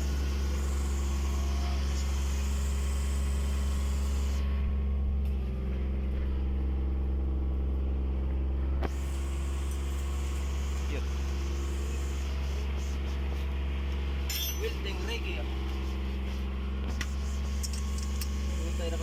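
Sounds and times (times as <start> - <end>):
heavy equipment engine running: 0.0 - 19.0.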